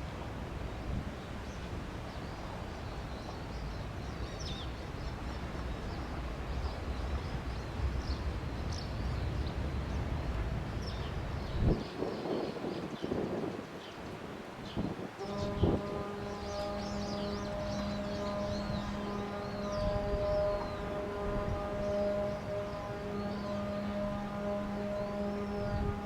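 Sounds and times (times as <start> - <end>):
rustle: 0.0 - 26.0
wind buffeting microphone: 0.0 - 26.0.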